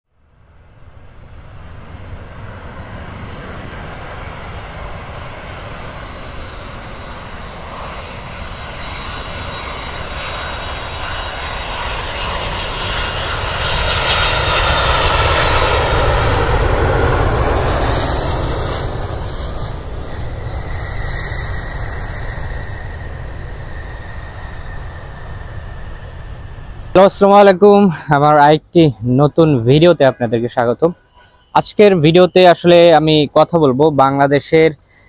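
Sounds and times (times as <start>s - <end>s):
jet engine roar: 0.2s - 35.0s.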